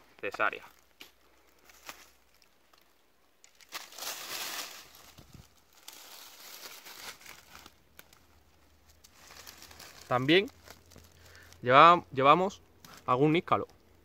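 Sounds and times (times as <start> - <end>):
rustling: 0.0 - 11.6.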